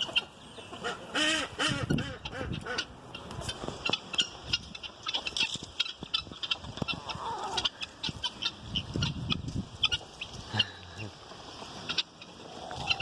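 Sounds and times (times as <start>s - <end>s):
chickens guinea fowl and ducks calling: 0.0s - 13.0s.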